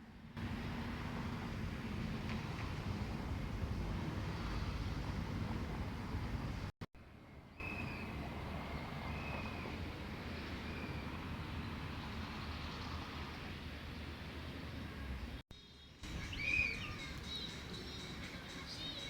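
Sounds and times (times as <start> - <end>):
low rumbling outdoor noise: 0.0 - 19.0.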